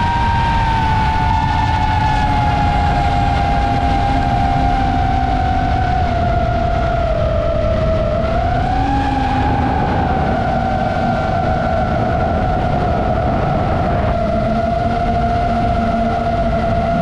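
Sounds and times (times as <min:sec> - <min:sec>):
low rushing noise: 0:00.0 - 0:17.0
quadcopter motors whining: 0:00.0 - 0:17.0.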